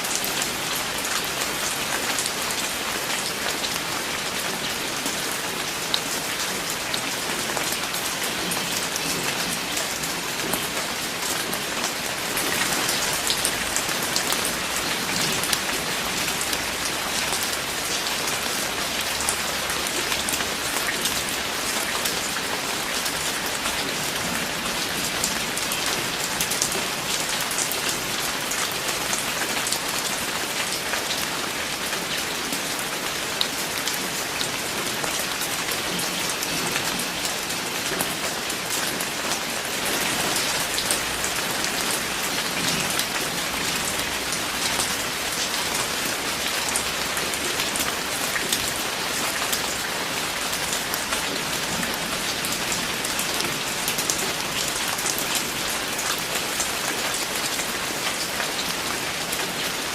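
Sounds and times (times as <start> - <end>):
raindrops striking a surface: 0.0 - 59.9.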